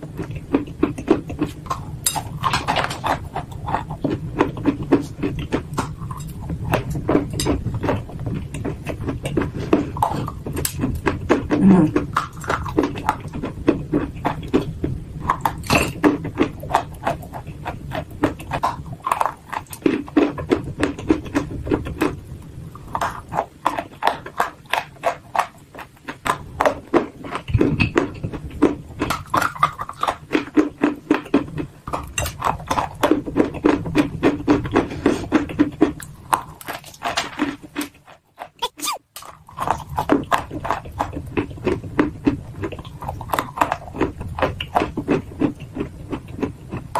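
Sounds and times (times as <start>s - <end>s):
clay crunching while chewed: 0.0s - 22.2s, 22.8s - 46.9s.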